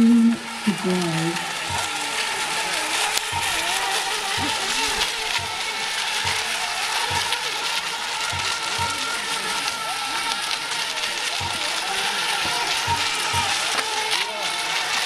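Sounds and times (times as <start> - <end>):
electric boat motors whining: 0.0 - 15.0.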